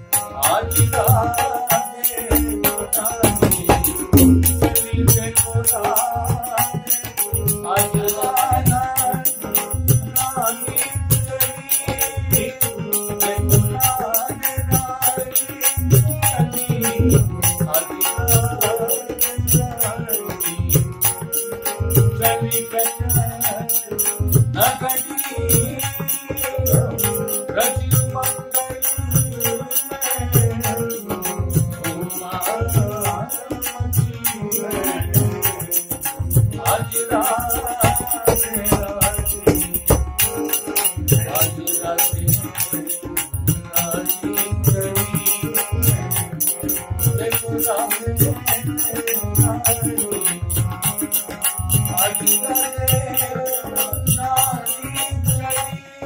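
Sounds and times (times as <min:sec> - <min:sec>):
harmonium: 0:00.0 - 0:56.0
man singing: 0:00.0 - 0:56.0.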